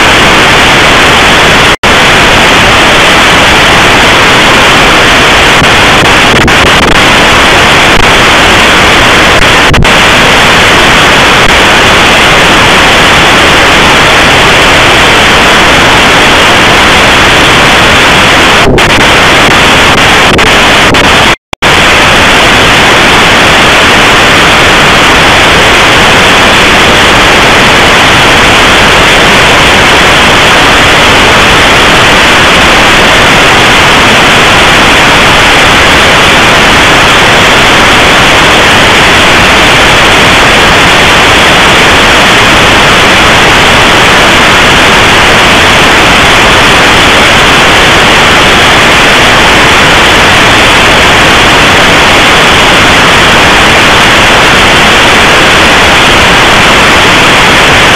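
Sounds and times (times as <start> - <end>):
radio static hiss: 0.0 - 57.9.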